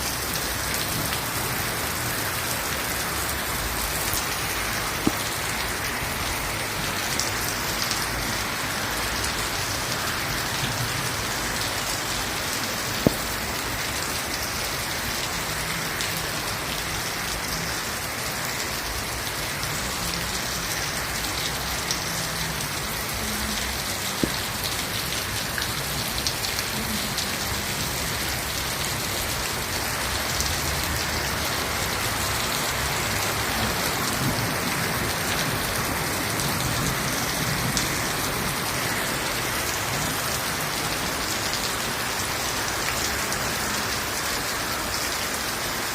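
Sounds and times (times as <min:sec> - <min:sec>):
rain pattering: 0:00.0 - 0:45.9.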